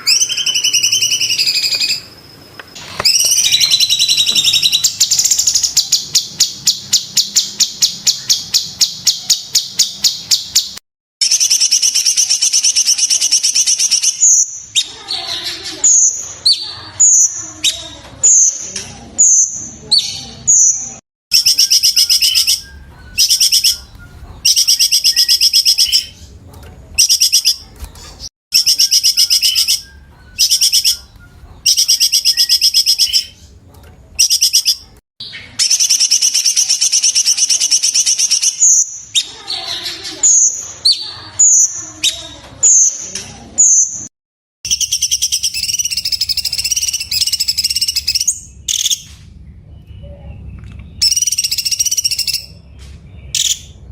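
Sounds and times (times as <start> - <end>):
bird singing trills: 0.0 - 26.4, 27.0 - 33.6, 34.2 - 43.0, 44.7 - 53.9.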